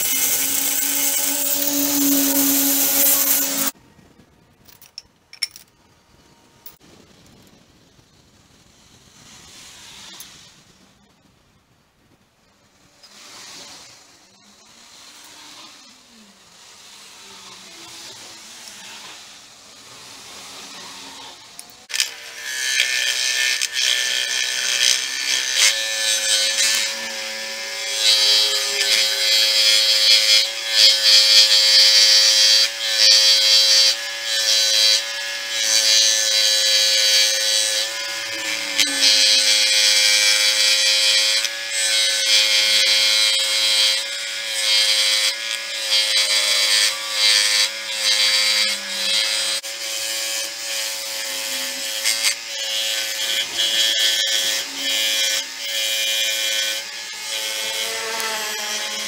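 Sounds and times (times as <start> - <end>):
power tool motor running: 0.0 - 3.8, 13.0 - 59.0
rough rasping grinding: 0.0 - 3.8, 13.0 - 59.0.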